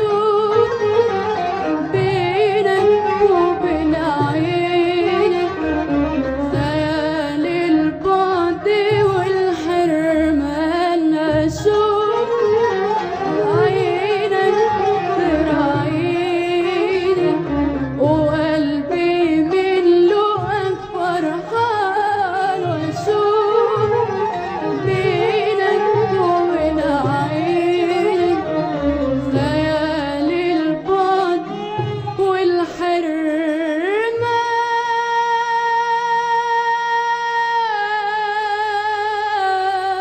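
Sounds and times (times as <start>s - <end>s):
orchestral melody with vibrato: 0.0s - 33.0s.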